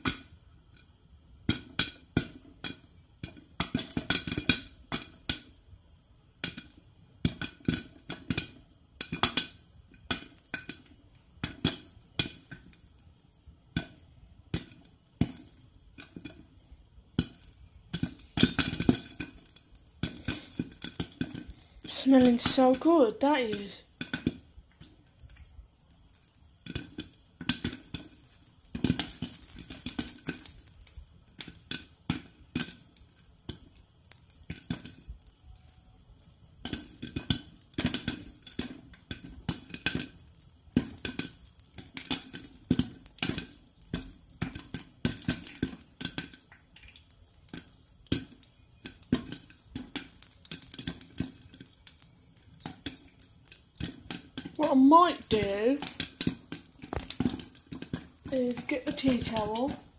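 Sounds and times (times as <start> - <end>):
popcorn popping in a pot: 0.0 - 59.9.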